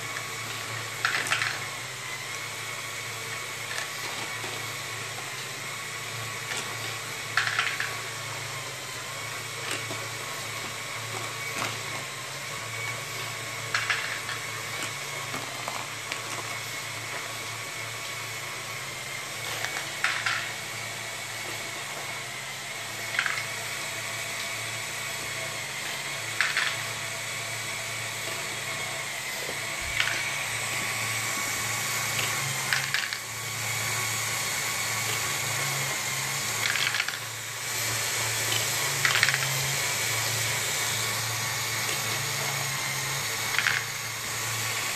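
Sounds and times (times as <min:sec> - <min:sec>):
toy motors whirring: 0:00.0 - 0:44.9.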